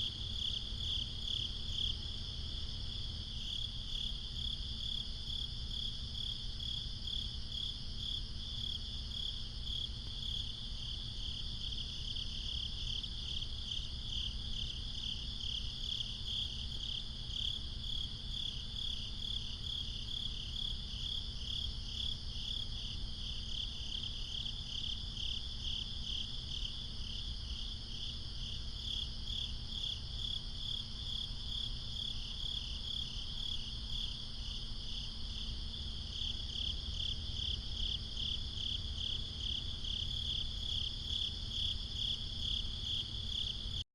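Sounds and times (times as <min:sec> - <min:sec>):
crickets chirping: 0:00.0 - 0:43.8.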